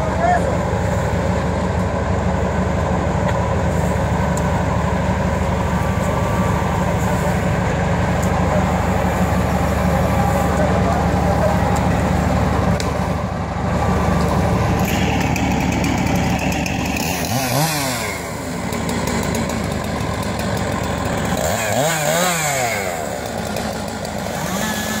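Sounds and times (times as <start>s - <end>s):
wood chipper engine running: 0.0s - 25.0s
engine revving: 3.7s - 25.0s.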